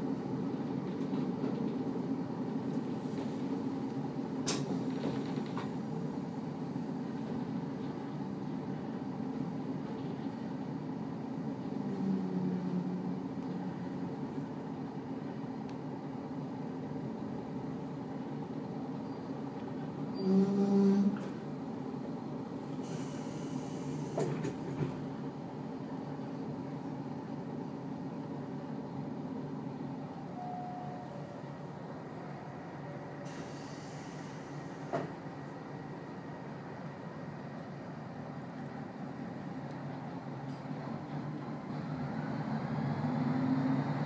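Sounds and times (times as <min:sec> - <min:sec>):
railcar engine and wheel rumble: 0:00.0 - 0:44.0.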